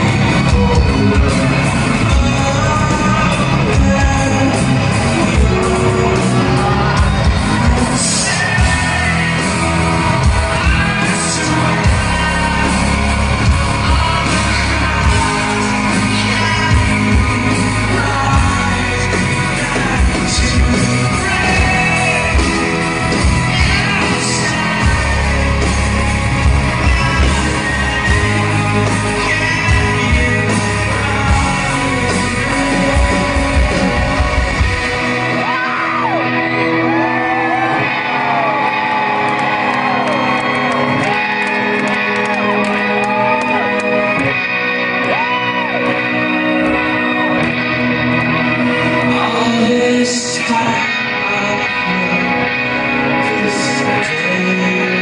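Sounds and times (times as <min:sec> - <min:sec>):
man singing: 0:00.0 - 0:41.7, 0:48.8 - 0:55.0
live rock band: 0:00.0 - 0:55.0.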